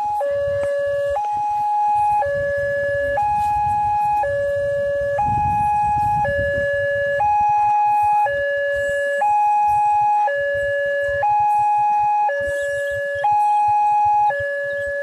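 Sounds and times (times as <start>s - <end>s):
two-tone warning alarm: 0.0s - 15.0s.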